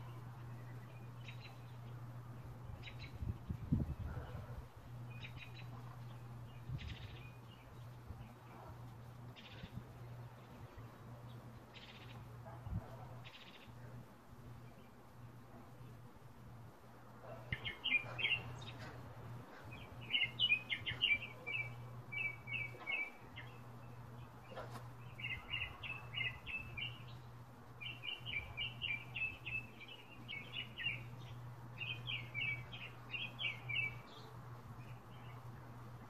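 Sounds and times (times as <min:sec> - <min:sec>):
bird chirping: 0:00.0 - 0:03.9, 0:04.9 - 0:13.9, 0:17.2 - 0:35.6.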